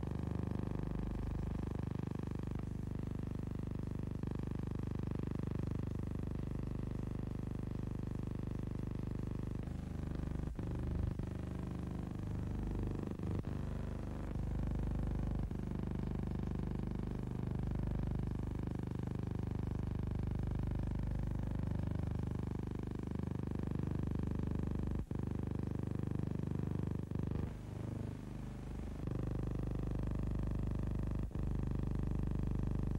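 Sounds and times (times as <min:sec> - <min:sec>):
steady low hum: 0:00.0 - 0:03.1, 0:07.5 - 0:22.2, 0:23.0 - 0:32.9.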